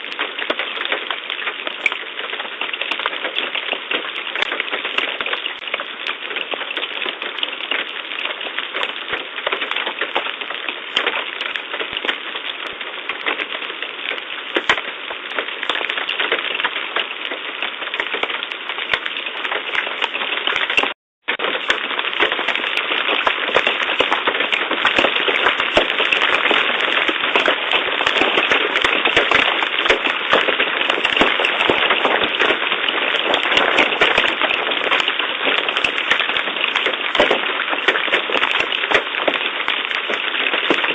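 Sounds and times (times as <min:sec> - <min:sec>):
hail clattering: 0:00.0 - 0:40.9
rain hissing: 0:00.0 - 0:40.9.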